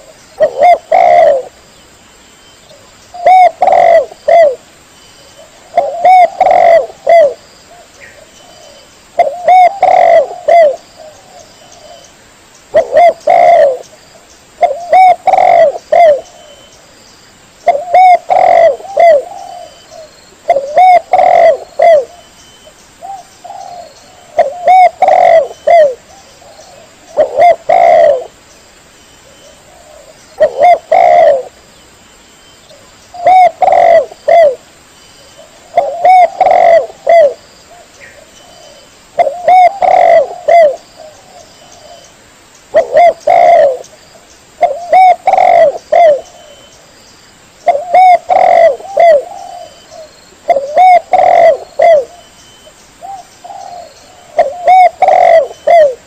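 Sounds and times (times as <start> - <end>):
dove cooing: 0.0 - 1.6, 2.7 - 4.6, 5.3 - 12.1, 12.7 - 13.8, 14.6 - 16.7, 17.6 - 22.3, 23.0 - 28.4, 29.2 - 31.6, 32.7 - 34.6, 35.3 - 42.1, 42.7 - 44.0, 44.6 - 46.7, 47.6 - 52.3, 53.0 - 56.0.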